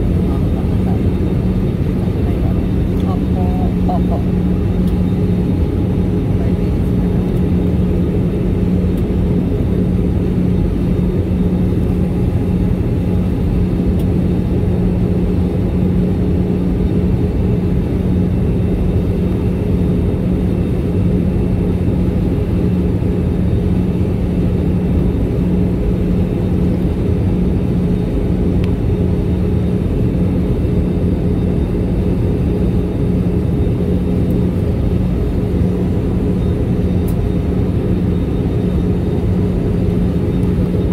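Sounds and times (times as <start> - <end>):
aircraft engines and rushing air: 0.0 - 40.9
low cabin hum: 0.0 - 40.9.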